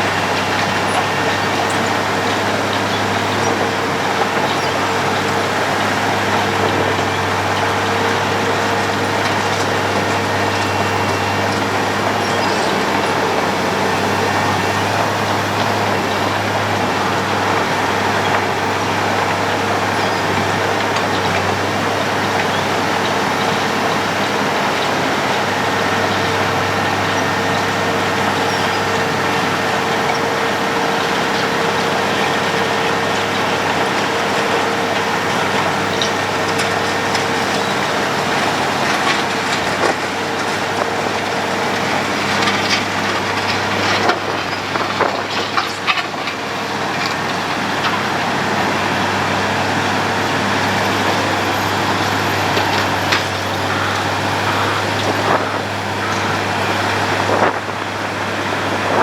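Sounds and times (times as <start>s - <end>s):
heavy diesel engine drone: 0.0s - 59.0s.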